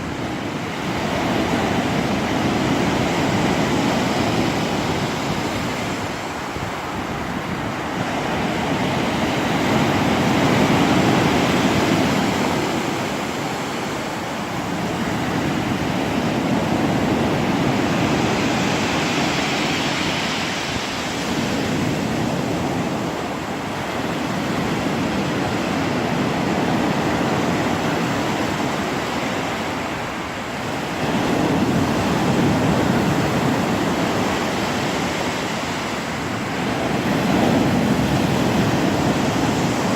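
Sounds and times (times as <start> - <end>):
waves washing onto shore: 0.0 - 39.9.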